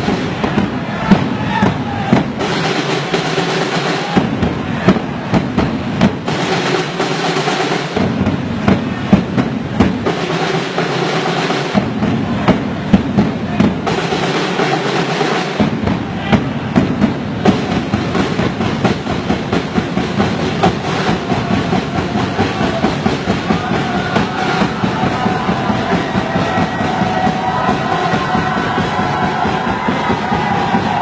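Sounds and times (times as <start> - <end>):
drums beating: 0.0 - 31.0.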